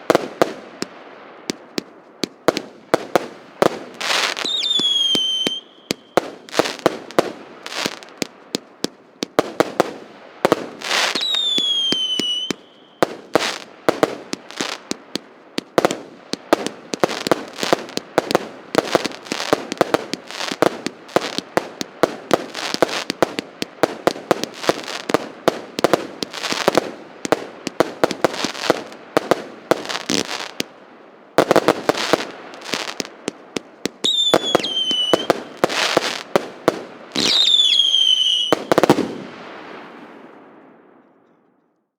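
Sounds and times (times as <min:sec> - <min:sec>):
fireworks bangs and crackling: 0:00.0 - 0:41.4
fireworks high whistling: 0:01.5 - 0:30.6, 0:31.4 - 0:39.2.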